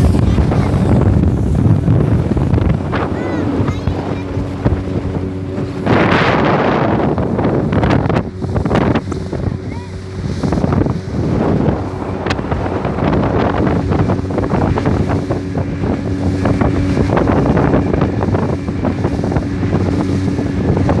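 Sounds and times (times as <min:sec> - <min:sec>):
boat engine drone: 0:00.0 - 0:21.0
wind buffeting microphone: 0:00.0 - 0:21.0.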